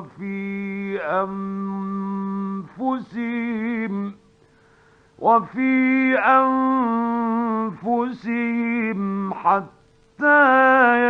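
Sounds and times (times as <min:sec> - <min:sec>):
man reciting melodically: 0:00.0 - 0:04.2, 0:05.2 - 0:11.0
faint steady recording hum: 0:00.0 - 0:11.0.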